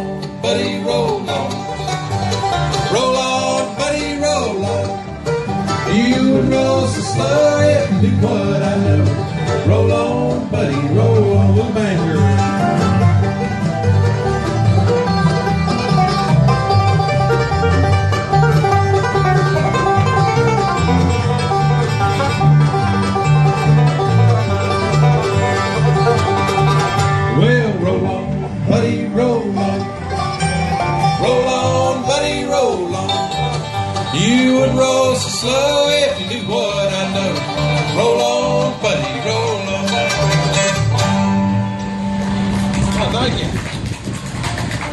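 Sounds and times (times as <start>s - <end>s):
banjo picking: 0.0s - 44.9s
guitar picking: 0.0s - 44.9s.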